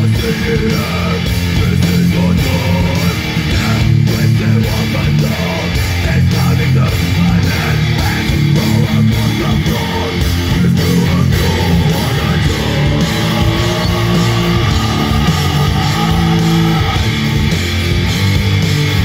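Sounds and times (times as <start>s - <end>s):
metal band playing live: 0.0s - 19.0s.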